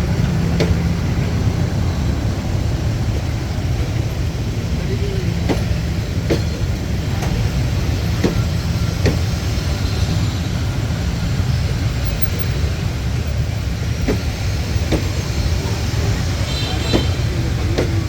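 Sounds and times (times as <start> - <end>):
train wheels rumbling on track: 0.0 - 18.0
wheels clacking over rail joints: 0.0 - 18.0.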